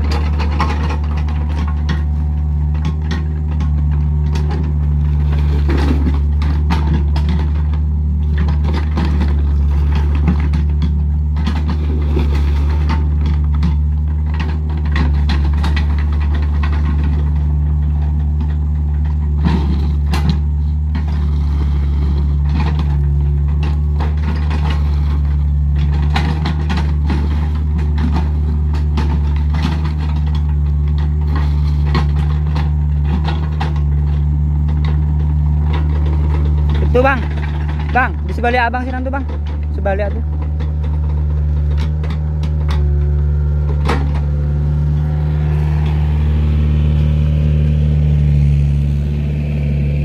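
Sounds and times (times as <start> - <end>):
clanks and knocks: 0.0 - 46.2
diesel engine running: 0.0 - 50.0.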